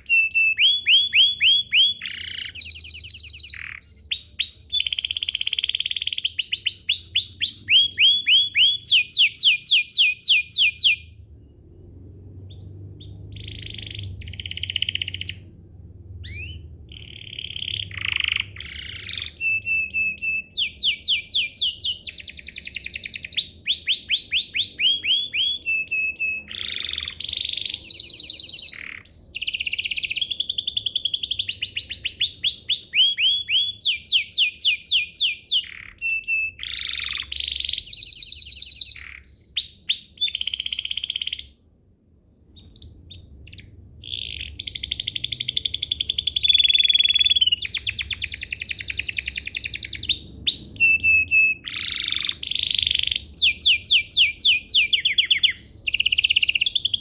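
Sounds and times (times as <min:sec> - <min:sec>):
canary singing trills: 0:00.0 - 0:41.7, 0:42.5 - 0:57.0.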